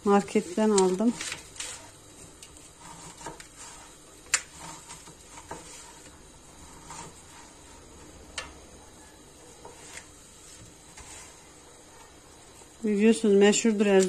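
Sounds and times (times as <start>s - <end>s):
dough strands rustling: 0.0s - 14.0s.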